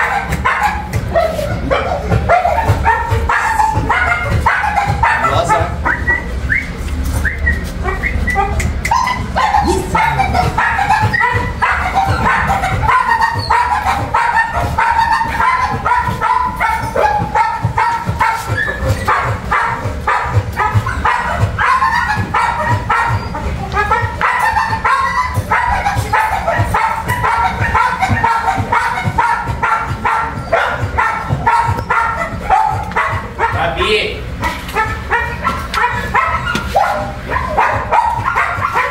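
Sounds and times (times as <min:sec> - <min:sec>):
puppies yipping and whining: 0:00.0 - 0:33.7, 0:34.4 - 0:38.9.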